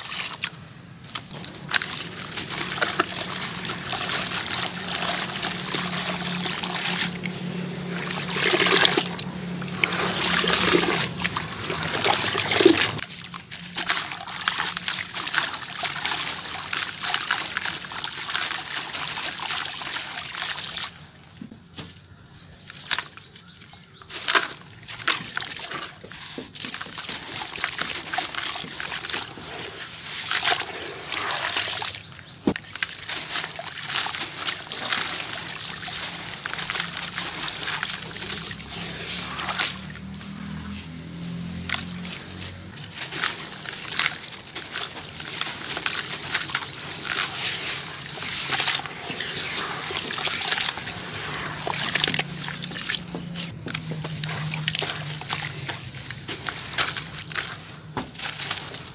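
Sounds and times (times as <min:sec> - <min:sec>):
grit trickling into water: 0:00.0 - 0:21.2, 0:22.4 - 0:58.9.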